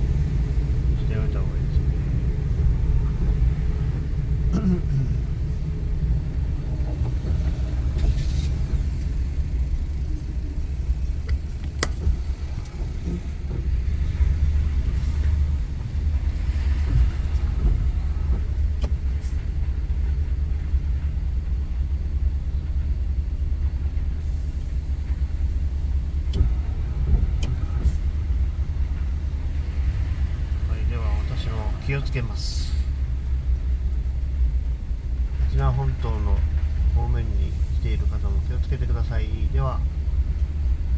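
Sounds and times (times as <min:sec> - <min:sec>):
wind gusting against microphone: 0:00.0 - 0:40.9.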